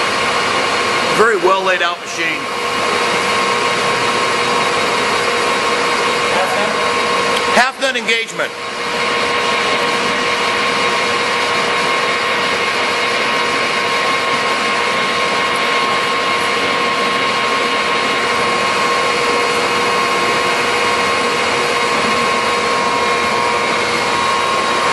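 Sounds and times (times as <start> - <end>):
lathe running with whine: 0.0 - 24.9.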